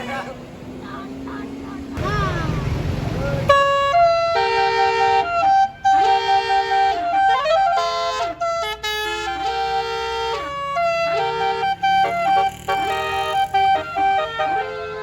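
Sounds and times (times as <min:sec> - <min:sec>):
bus multi-note horn playing a tune: 0:02.0 - 0:15.0.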